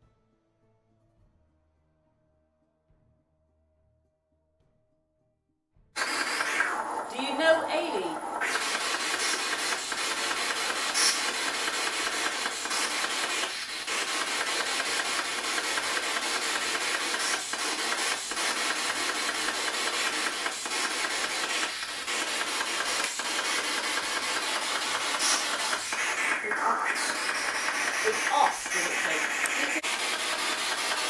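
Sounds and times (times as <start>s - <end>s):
radio static hiss: 6.0s - 31.0s.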